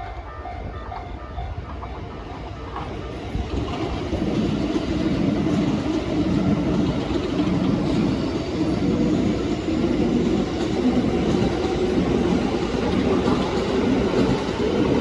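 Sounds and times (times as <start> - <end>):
crossing warning bell: 0.0 - 15.0
train running noise: 0.0 - 15.0.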